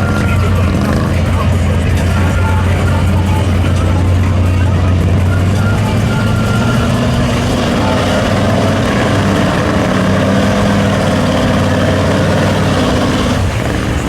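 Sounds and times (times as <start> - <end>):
truck engines under load: 0.0 - 14.0.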